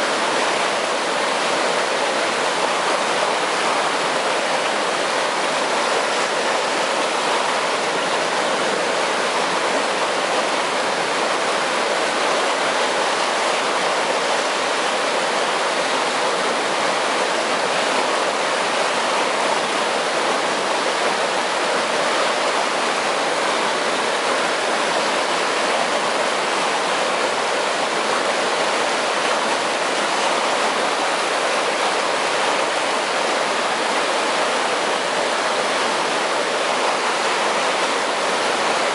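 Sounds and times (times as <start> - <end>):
water rushing through canal: 0.0 - 38.9.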